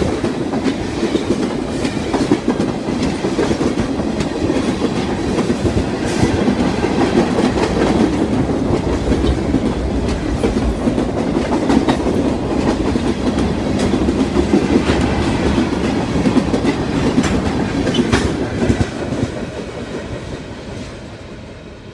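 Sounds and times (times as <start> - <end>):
freight train cars rumbling: 0.0 - 21.9
wheels clicking over rail joints: 0.1 - 19.7.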